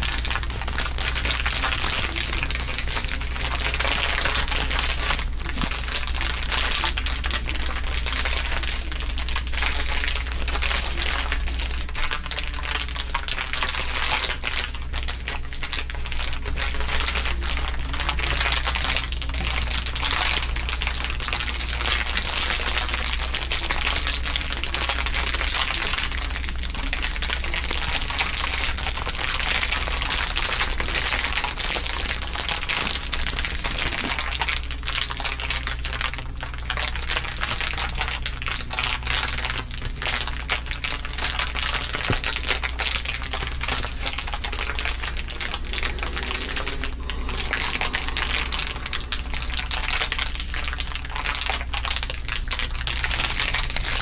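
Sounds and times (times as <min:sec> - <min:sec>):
crinkly material crackling: 0:00.0 - 0:54.0
steady low hum: 0:00.0 - 0:54.0.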